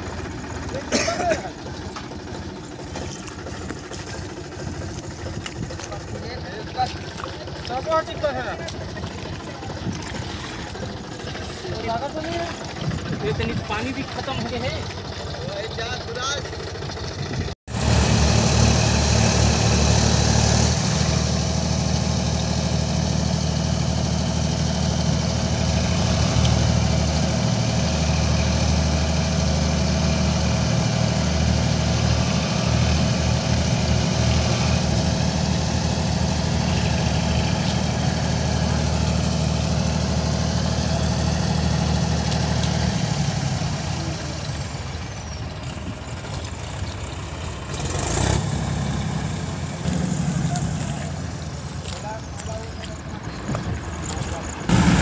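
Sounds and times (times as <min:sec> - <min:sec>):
diesel tractor engines rumbling: 0:00.0 - 0:55.0.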